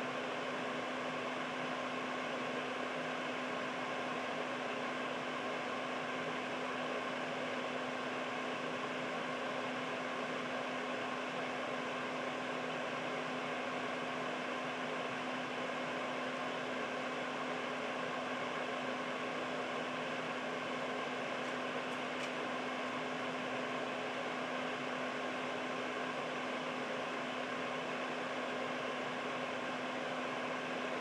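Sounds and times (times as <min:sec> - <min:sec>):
air purifier fan rush: 0:00.0 - 0:31.0.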